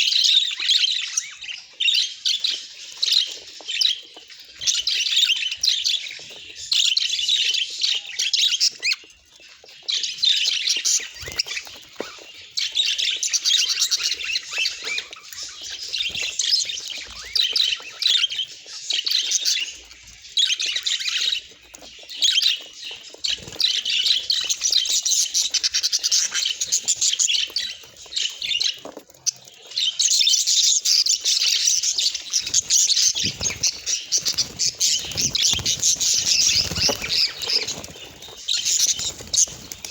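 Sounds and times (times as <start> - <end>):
budgerigars chattering: 4.6 - 28.8, 29.4 - 39.9.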